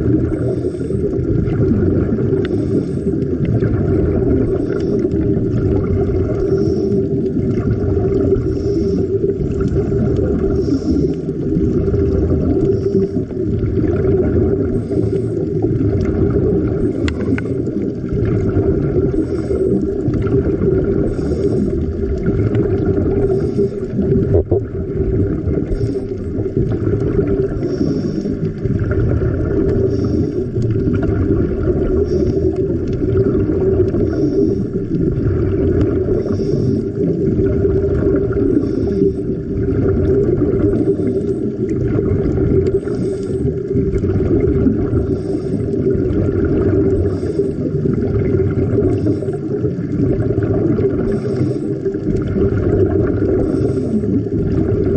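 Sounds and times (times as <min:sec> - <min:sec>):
underwater low rumble: 0:00.0 - 0:54.9.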